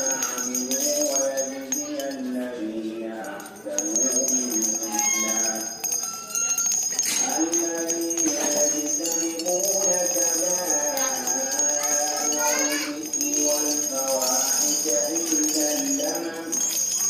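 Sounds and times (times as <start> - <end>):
steady high jingling: 0.0 - 17.0.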